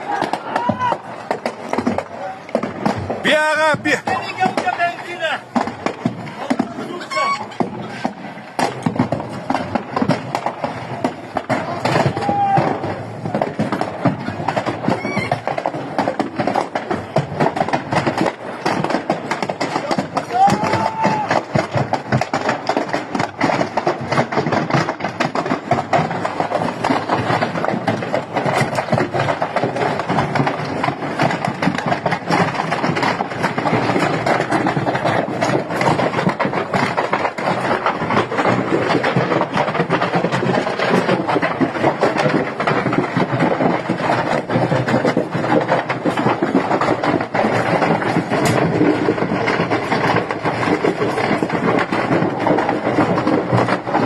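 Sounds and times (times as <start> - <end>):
firecrackers crackling and popping: 0.0 - 54.0.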